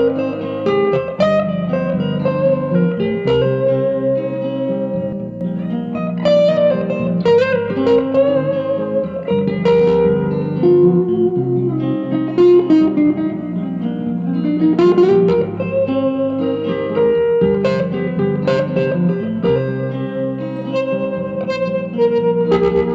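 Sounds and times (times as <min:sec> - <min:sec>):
electric guitar playing: 0:00.0 - 0:22.9.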